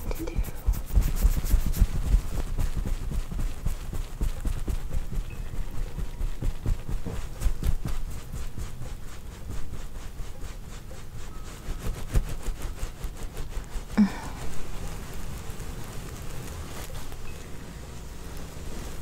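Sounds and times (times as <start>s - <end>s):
fine crackles: 0.0s - 19.0s
hands rubbing at microphone: 0.0s - 19.0s.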